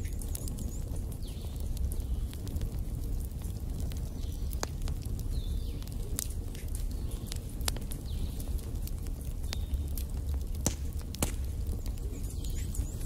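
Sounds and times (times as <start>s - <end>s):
burning logs popping: 0.0s - 13.0s
fire crackling: 0.0s - 13.0s
fire rumbling in fireplace: 0.0s - 13.0s.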